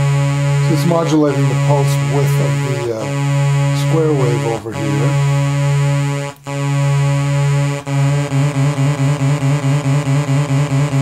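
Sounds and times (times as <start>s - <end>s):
low synthesizer square-wave note: 0.0s - 11.0s.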